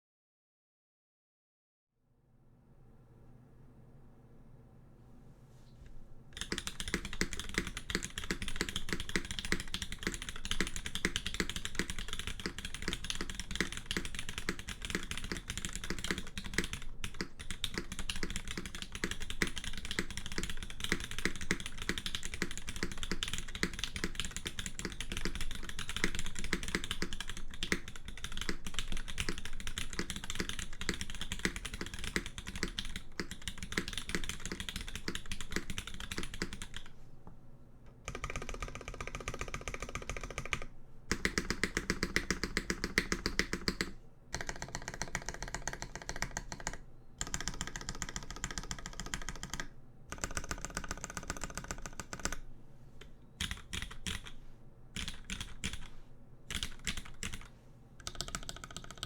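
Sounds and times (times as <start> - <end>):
fast keyboard typing: 6.4 - 36.9, 38.0 - 52.5, 53.4 - 55.9, 56.5 - 59.0.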